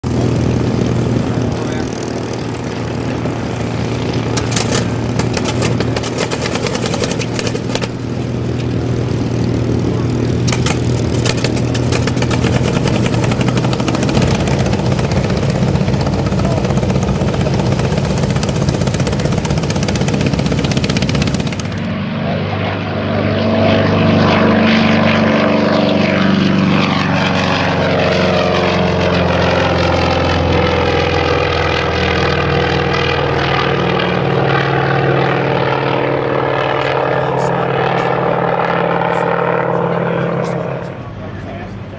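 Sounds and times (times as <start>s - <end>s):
aircraft flying low past: 0.0s - 41.9s
propeller aircraft engine roaring: 0.0s - 41.9s.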